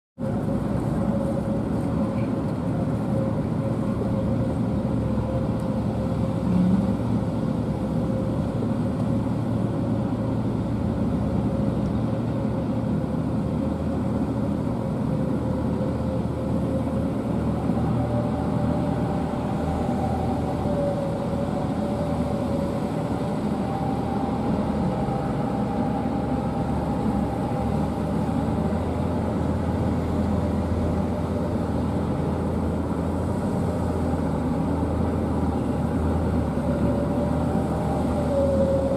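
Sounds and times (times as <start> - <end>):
dump truck engines running: 0.2 - 38.9
higher whine: 0.2 - 38.9
steady whine: 0.2 - 38.9.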